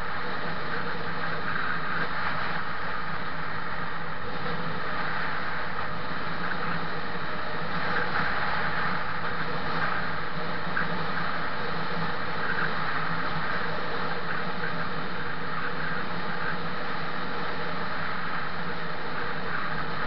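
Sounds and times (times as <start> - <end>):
low steady hum: 0.0 - 20.0
wind and road noise: 0.0 - 20.0.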